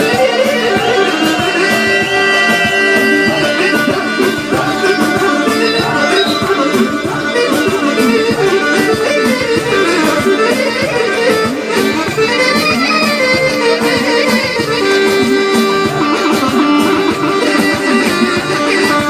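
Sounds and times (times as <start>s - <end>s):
instrumental folk music: 0.0s - 19.0s.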